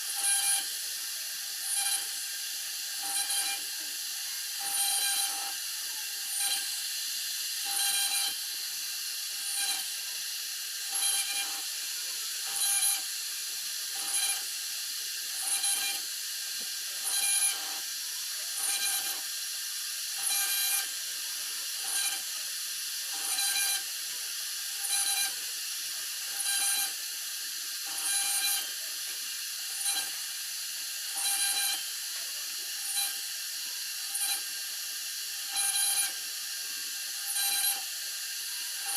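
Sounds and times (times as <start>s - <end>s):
router bit cutting board: 0.0s - 38.9s
router spindle whine: 0.0s - 38.9s.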